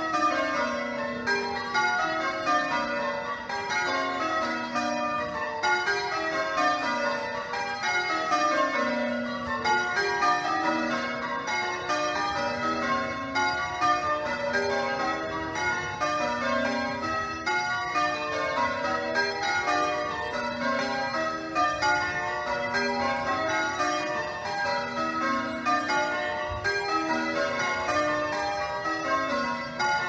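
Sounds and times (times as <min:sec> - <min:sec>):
church bells change ringing: 0:00.0 - 0:30.0.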